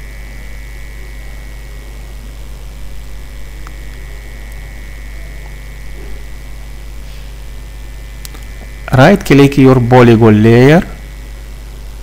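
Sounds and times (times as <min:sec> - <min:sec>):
low electrical hum: 0:00.0 - 0:12.0
thin high whine: 0:00.0 - 0:12.0.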